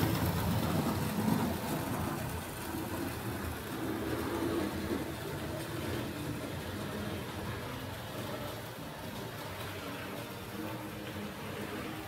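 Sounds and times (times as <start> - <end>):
wheels rumbling on track: 0.0 - 12.0.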